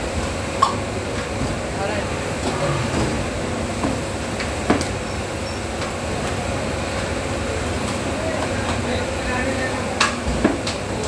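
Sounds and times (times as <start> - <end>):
rumbling background noise: 0.0 - 11.0.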